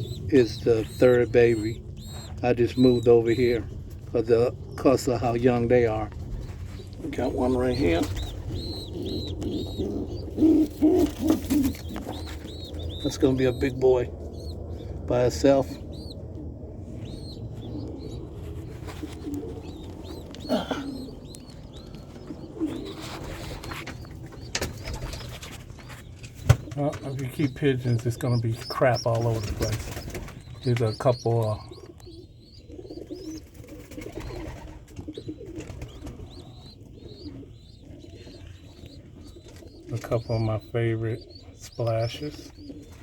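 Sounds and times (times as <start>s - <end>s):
wings fluttering: 0.0s - 40.4s
high peeping calls: 0.0s - 43.0s
pigeons cooing: 0.0s - 43.0s.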